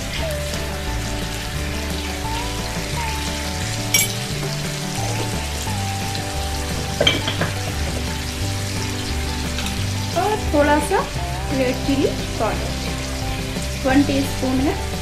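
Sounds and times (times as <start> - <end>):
chicken and onions sizzling in oil: 0.0 - 15.0
slow background music: 0.0 - 15.0.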